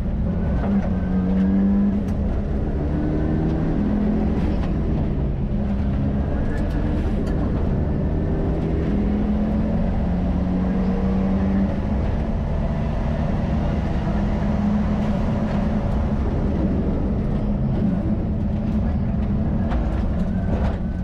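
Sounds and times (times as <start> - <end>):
car engine accelerating: 0.0 - 21.0
road and tyre noise: 0.0 - 21.0.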